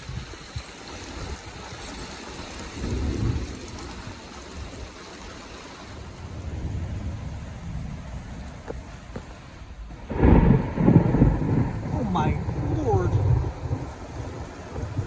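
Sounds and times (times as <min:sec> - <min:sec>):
thunder rumbling: 0:00.1 - 0:15.0.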